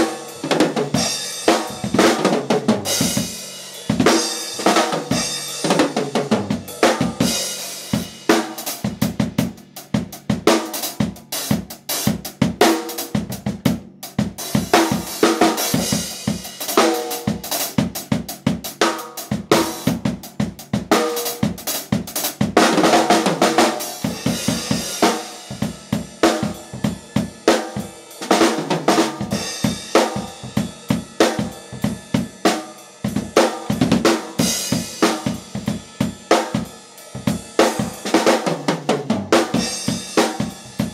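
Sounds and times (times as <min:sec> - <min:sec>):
drum kit played fast: 0:00.0 - 0:40.9.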